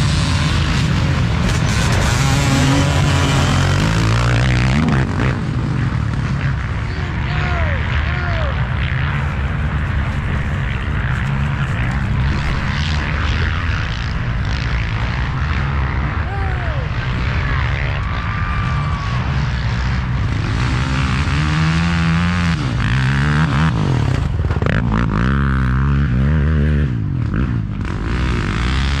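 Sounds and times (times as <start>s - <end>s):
quad bike engines racing: 0.0s - 29.0s.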